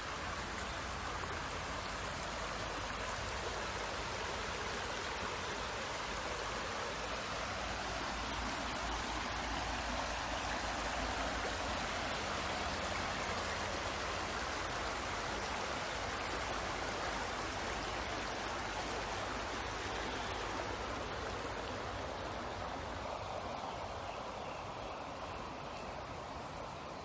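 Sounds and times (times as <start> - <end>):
stream water flowing: 0.0 - 27.0.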